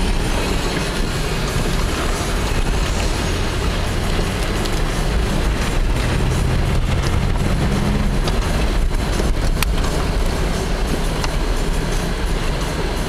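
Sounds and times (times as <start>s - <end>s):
sharp clicks from vehicle: 0.0s - 13.0s
tyres rumbling over snow: 0.0s - 13.0s
vehicle engine running: 0.0s - 13.0s.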